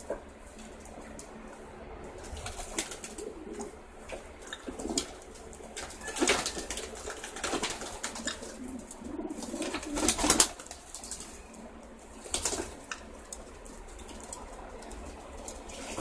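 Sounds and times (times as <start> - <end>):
pigeons cooing: 2.1 - 16.0
pigeons flapping and splashing: 2.1 - 16.0.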